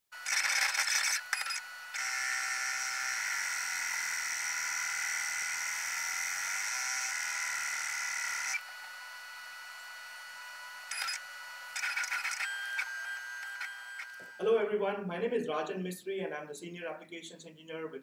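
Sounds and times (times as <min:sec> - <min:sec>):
laser engraver whining: 0:00.2 - 0:14.7.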